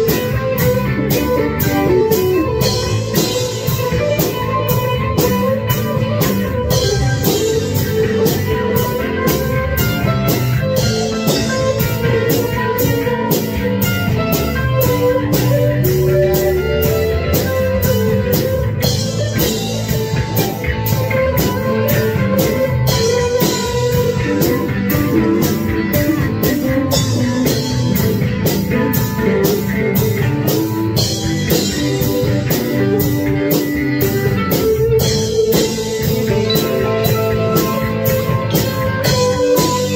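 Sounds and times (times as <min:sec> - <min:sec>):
drums: 0:00.0 - 0:39.9
electric guitar: 0:00.0 - 0:39.9.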